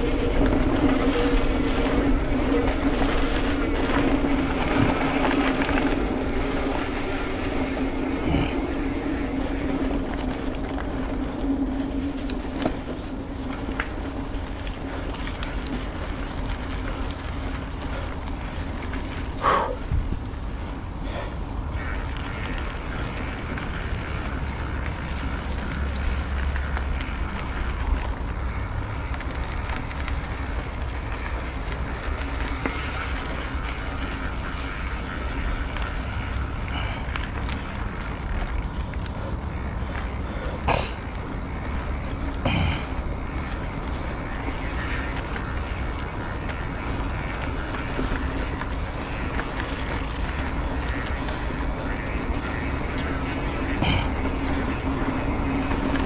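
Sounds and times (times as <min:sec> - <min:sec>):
road traffic noise: 0:00.0 - 0:56.0
wind rumble on microphone: 0:00.0 - 0:56.0.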